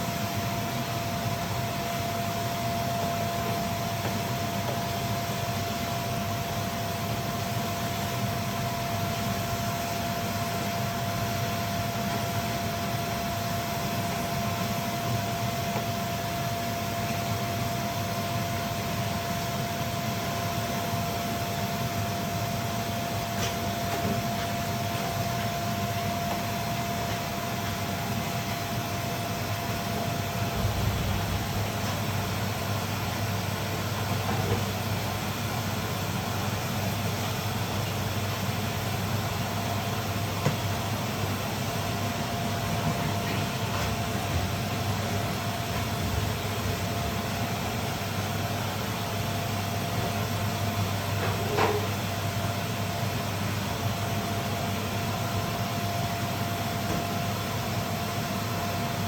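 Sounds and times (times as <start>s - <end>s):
constant machine whine: 0.0s - 59.0s
machine hum and hiss: 0.0s - 59.0s.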